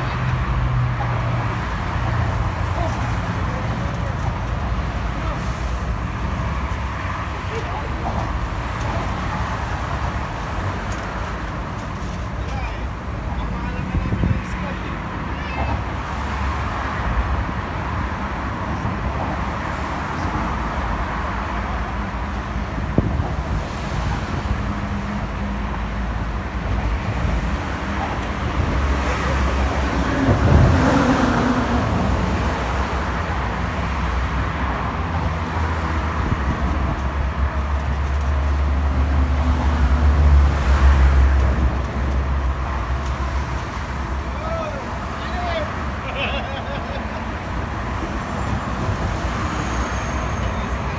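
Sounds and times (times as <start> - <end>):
road traffic rumble: 0.0 - 50.9.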